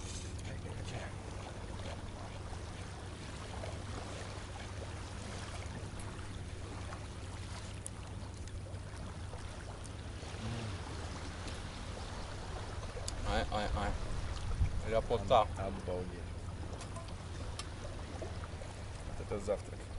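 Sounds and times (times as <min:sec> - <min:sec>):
low steady hum: 0:00.0 - 0:19.9
wind: 0:00.0 - 0:19.9.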